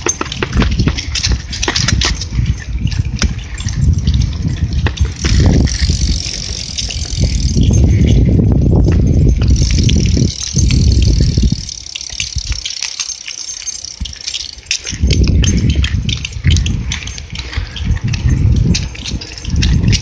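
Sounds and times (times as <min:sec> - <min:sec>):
wind rumble on microphone: 0:00.0 - 0:12.8, 0:13.8 - 0:20.0
sharp clicks and rattles: 0:00.0 - 0:20.0.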